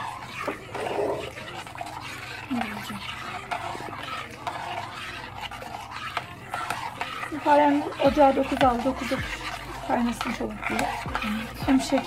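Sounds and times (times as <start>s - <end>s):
spoon stirring in metal pot: 0.0s - 12.0s.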